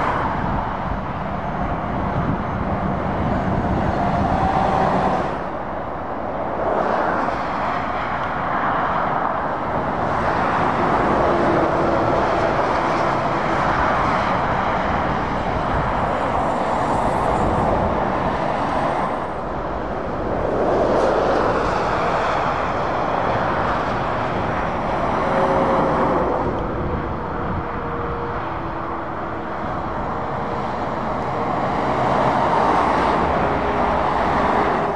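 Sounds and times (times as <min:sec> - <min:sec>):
lorries and cars driving past: 0:00.0 - 0:34.9.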